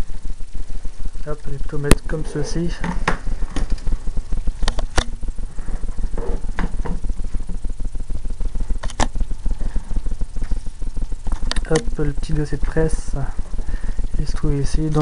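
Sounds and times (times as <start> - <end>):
fluttering low hum: 0.0 - 15.0.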